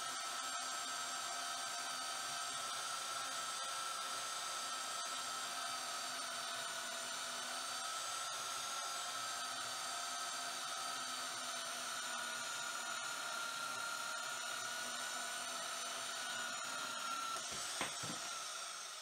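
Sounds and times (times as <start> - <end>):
bandsaw cutting steel: 0.0 - 19.0.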